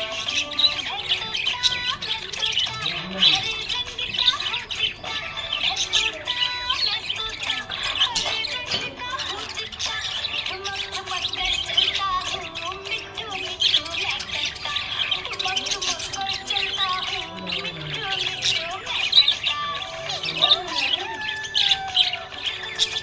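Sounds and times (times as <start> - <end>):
budgie chirping and warbling: 0.0 - 23.0.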